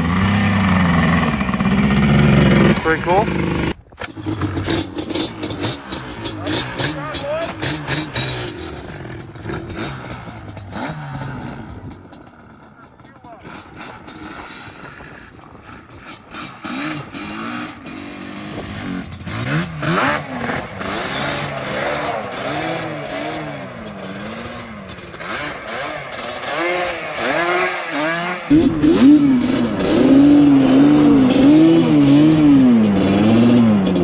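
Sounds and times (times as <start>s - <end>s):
two-stroke quad engine revving: 0.0s - 34.0s.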